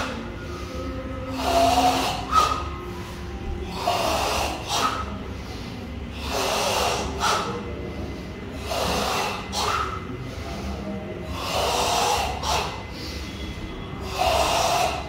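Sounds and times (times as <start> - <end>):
people breathing forcefully in unison: 0.0 - 15.0.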